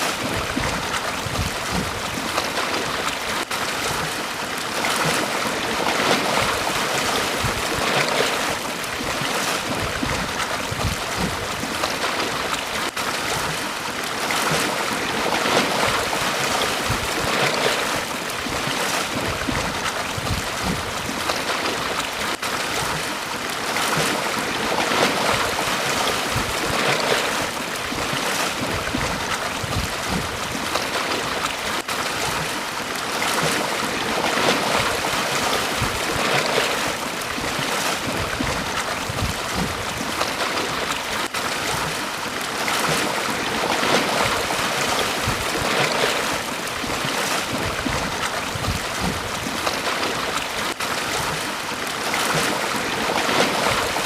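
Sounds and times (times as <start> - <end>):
sea waves washing onto beach: 0.0 - 54.0.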